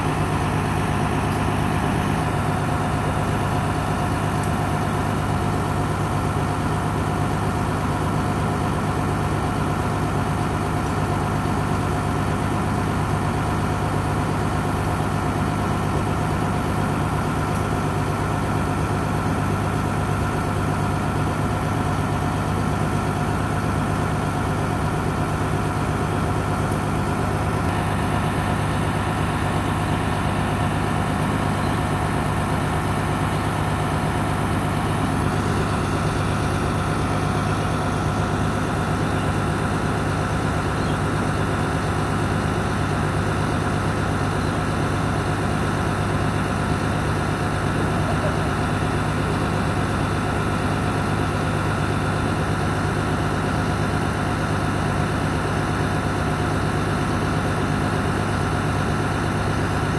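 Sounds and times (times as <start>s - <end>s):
crane engine idling: 0.0s - 59.9s.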